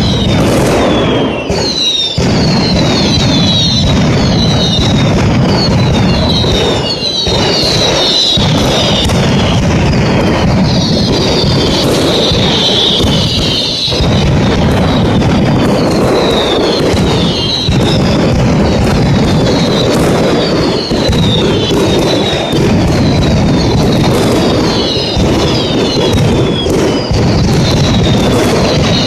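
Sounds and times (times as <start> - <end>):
firecrackers banging rapidly: 0.0 - 29.0
whistling fireworks: 0.0 - 29.0.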